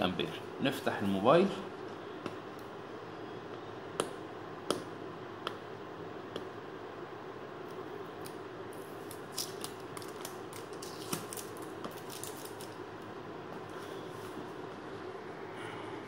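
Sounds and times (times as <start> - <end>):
low room noise: 0.0 - 16.0.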